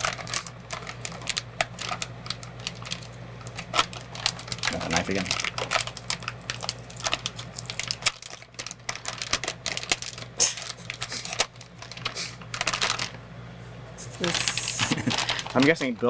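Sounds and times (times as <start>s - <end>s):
packaging clicks and crinkles: 0.0s - 13.2s, 14.2s - 16.0s.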